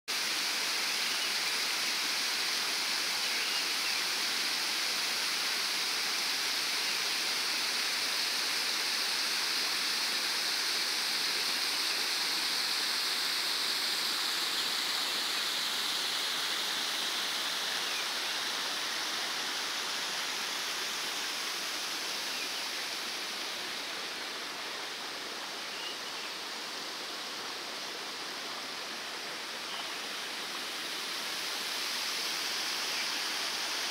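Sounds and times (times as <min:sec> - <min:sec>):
waterfall pouring into a pool: 0:00.1 - 0:33.9.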